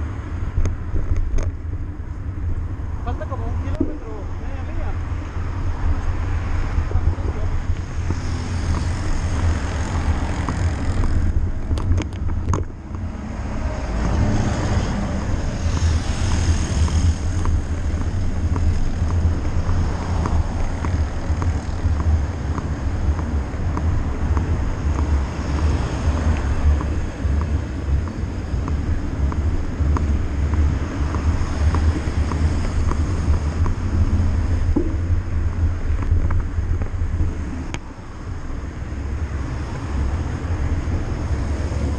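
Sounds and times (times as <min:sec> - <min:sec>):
deep rumble of bike rolling: 0:00.0 - 0:41.9
road traffic: 0:00.0 - 0:41.9
wind buffeting microphone: 0:00.0 - 0:41.9.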